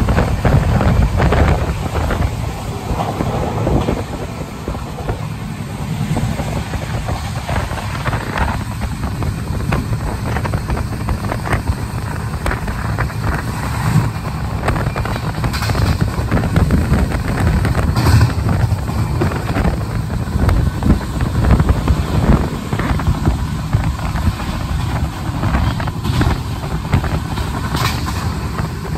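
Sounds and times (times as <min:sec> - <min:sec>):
train rumble on track: 0:00.0 - 0:28.9
train wheels clattering: 0:00.0 - 0:28.9
wind buffeting microphone: 0:00.0 - 0:28.9.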